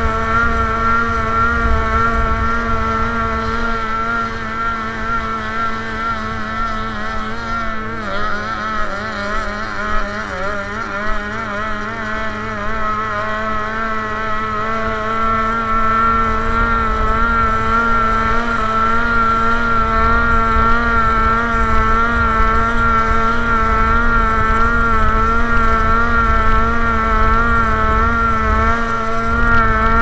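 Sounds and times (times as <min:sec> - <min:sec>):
boat engine drone: 0:00.0 - 0:30.0
low rumble of water and wind: 0:00.0 - 0:30.0.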